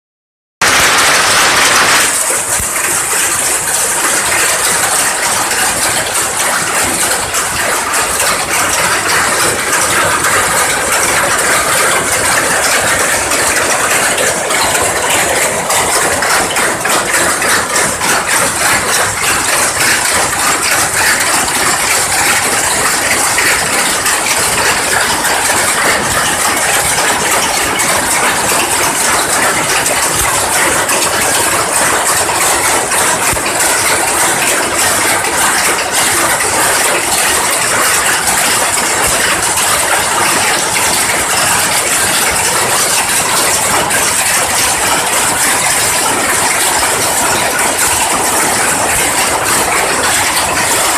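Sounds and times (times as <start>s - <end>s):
looms clattering: 0.6s - 50.9s.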